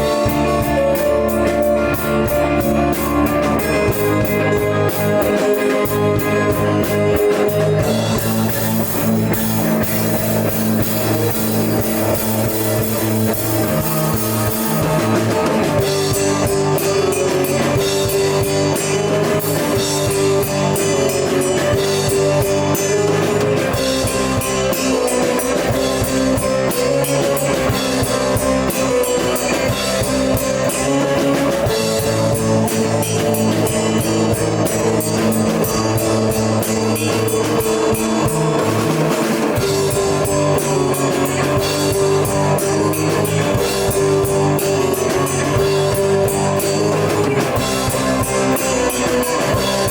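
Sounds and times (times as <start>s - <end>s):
cymbals washing: 0.0s - 49.9s
rock band playing live: 0.0s - 49.9s.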